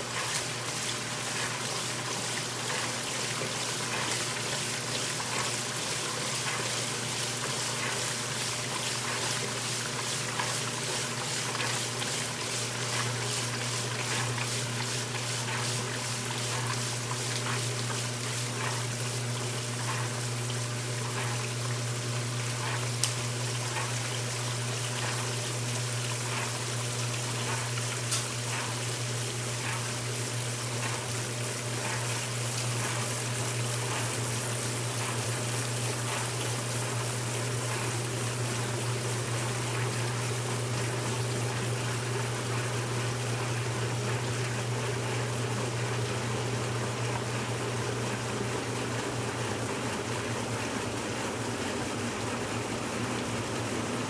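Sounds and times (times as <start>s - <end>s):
washing machine motor hum: 0.0s - 54.0s
water running through machine: 0.0s - 54.0s.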